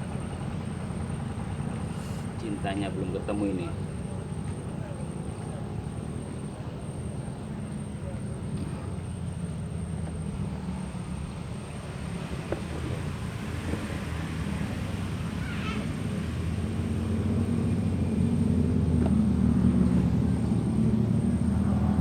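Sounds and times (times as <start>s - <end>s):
boat motor drone: 0.0s - 22.0s.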